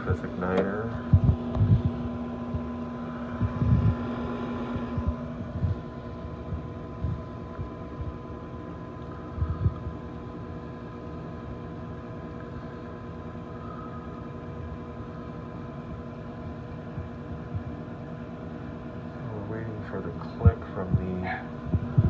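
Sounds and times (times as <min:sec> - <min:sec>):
furnace motor humming: 0:00.0 - 0:22.0.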